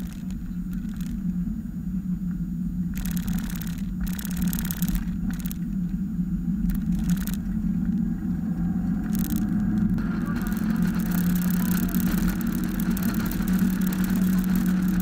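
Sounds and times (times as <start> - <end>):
car engine running: 0.0 - 1.6, 2.8 - 15.0
wind noise on microphone: 0.0 - 15.0.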